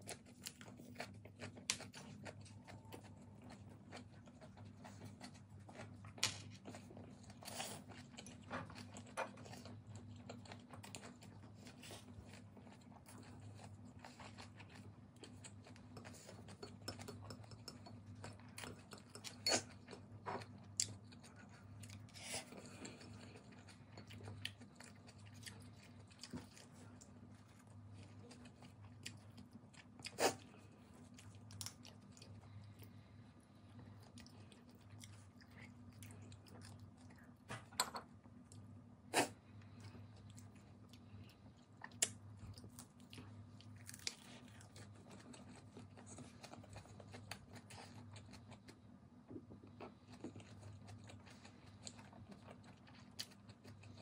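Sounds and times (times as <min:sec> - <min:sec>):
person chewing noodles: 0:00.0 - 0:37.5, 0:38.3 - 0:54.0
low steady hum: 0:00.0 - 0:54.0.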